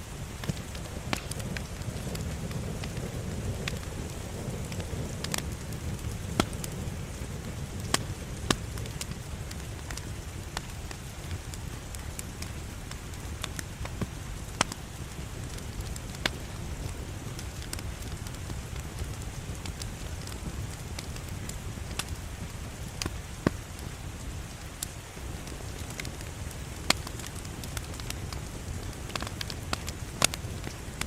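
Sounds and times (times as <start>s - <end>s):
fire crackles and pops: 0.0s - 31.0s
fire flames rumbling: 0.0s - 31.0s.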